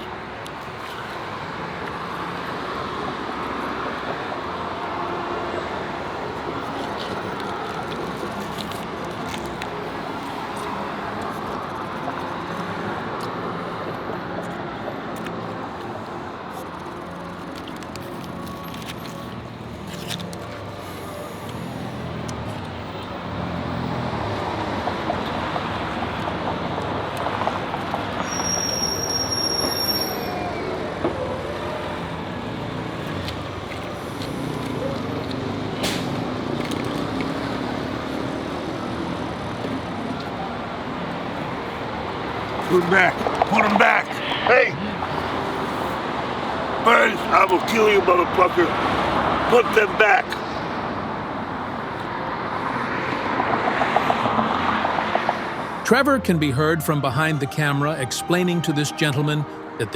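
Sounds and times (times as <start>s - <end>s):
street traffic hum: 0.0s - 59.9s.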